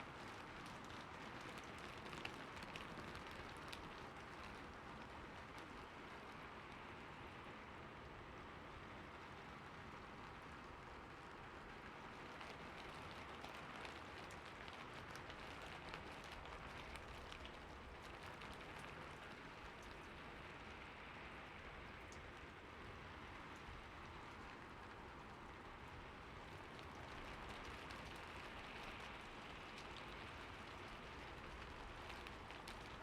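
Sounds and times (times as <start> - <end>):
rain falling in forest: 0.0 - 33.0.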